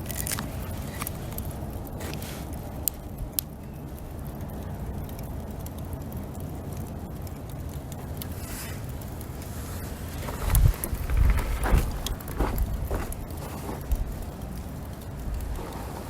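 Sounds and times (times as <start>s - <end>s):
bonfire burning: 0.0s - 16.0s
sharp pops of fire: 0.0s - 16.0s.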